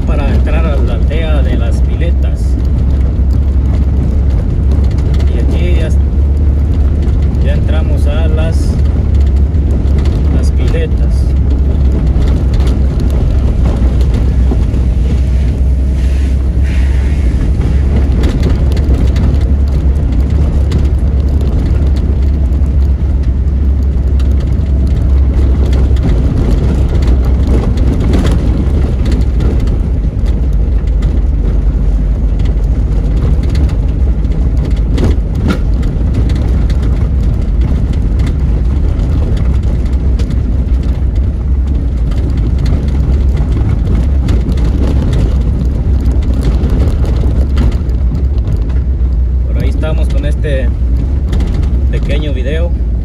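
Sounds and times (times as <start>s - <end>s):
car driving on dirt road: 0.0s - 53.0s.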